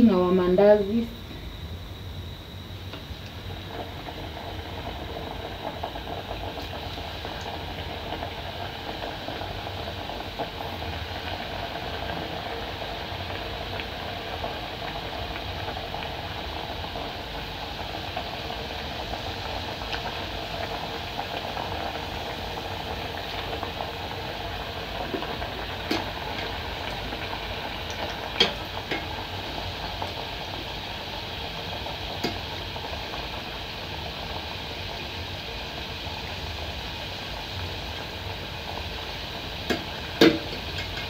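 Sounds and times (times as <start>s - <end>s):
dough sizzling in hot oil: 0.0s - 41.0s.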